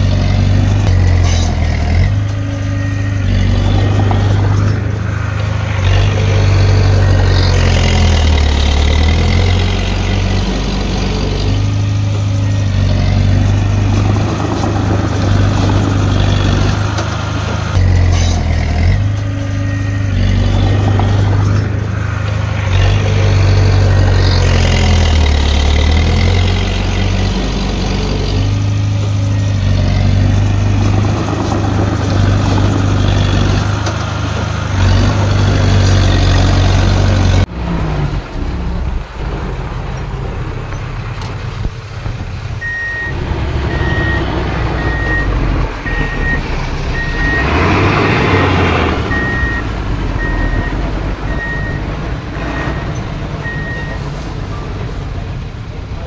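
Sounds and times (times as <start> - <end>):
bulldozer diesel engine working: 0.0 - 56.0.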